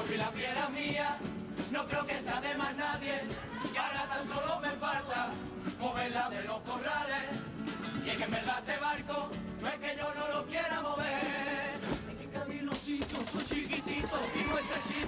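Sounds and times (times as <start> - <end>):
young voices singing together: 0.0 - 15.0.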